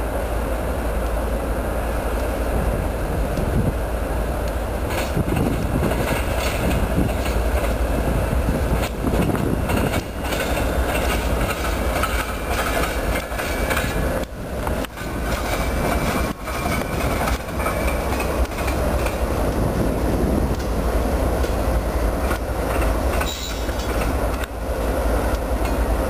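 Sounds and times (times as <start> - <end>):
locomotive engines rumbling: 0.0 - 26.0
train wheels rolling on rails: 0.0 - 26.0.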